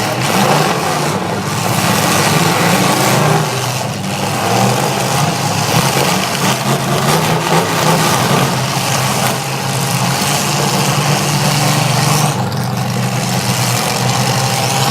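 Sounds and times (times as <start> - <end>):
truck engines running: 0.0 - 14.9.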